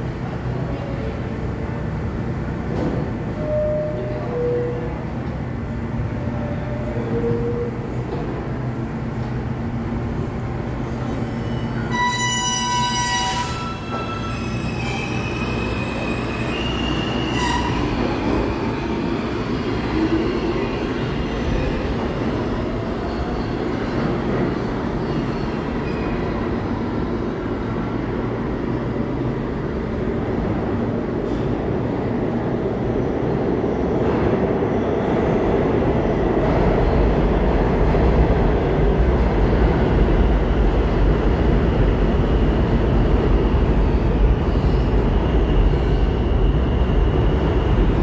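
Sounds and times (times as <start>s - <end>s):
subway train wheels rumbling: 0.0s - 48.0s.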